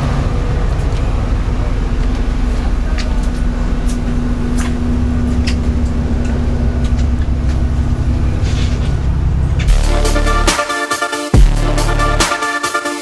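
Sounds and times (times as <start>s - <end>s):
coach engine and road drone: 0.0s - 13.0s.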